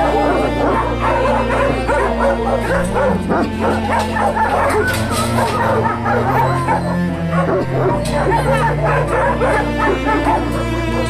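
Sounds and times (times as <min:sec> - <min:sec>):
background music: 0:00.0 - 0:11.0
puppies yipping and whining: 0:00.0 - 0:11.0.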